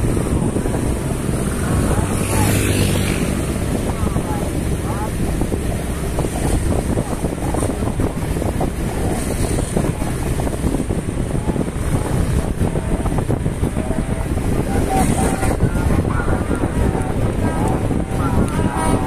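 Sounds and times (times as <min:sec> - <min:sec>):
motorcycle and car traffic: 0:00.0 - 0:19.0
wind buffeting microphone: 0:00.0 - 0:19.0.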